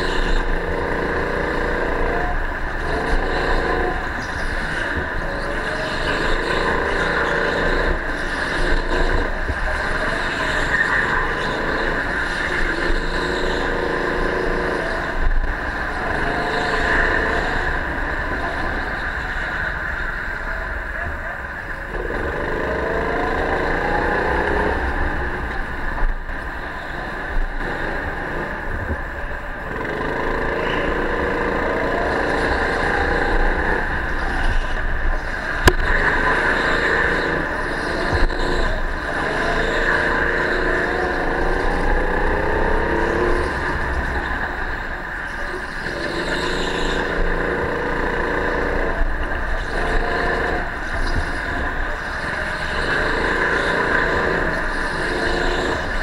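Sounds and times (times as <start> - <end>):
go-kart engine accelerating: 0.0 - 56.0.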